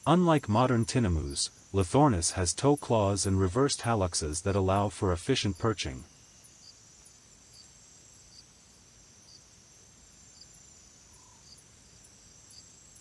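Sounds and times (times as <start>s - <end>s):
insect trilling: 0.0s - 13.0s
soft insect chirp: 0.0s - 13.0s.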